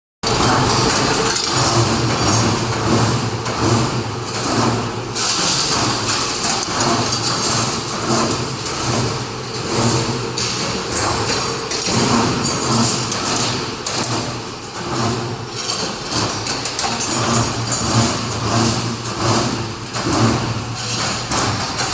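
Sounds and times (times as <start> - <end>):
knocks and clatter: 0.2 - 21.9
machine motor hum: 0.2 - 21.9.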